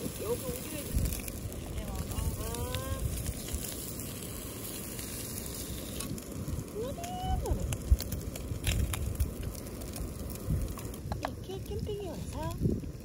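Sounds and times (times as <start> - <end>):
ham sizzling in a pan: 0.0 - 13.0.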